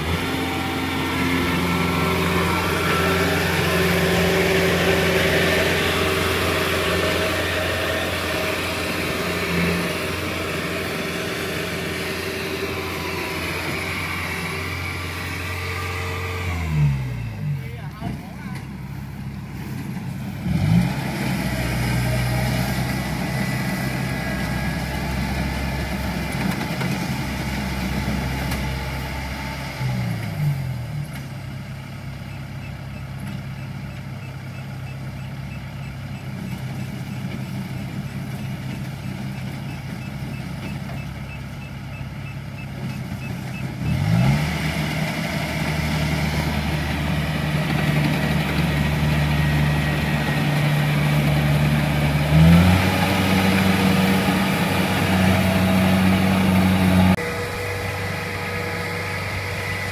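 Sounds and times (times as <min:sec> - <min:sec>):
diesel harvester engine running: 0:00.0 - 0:59.9.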